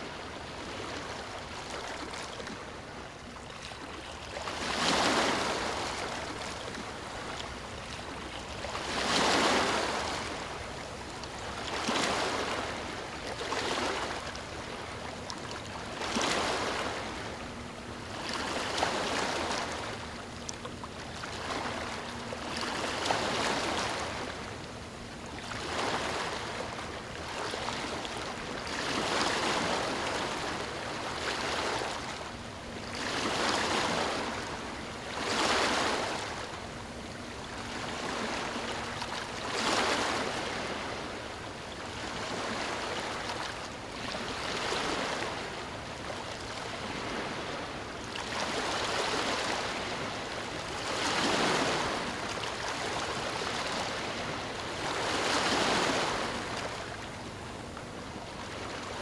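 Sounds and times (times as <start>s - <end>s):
ocean waves breaking: 4.5s - 59.0s.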